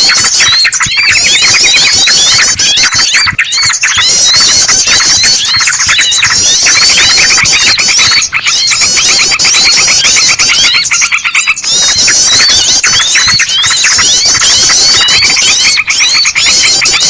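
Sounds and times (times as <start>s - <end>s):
bird distress squeals: 0.0s - 17.0s
bulbul calls: 0.0s - 17.0s.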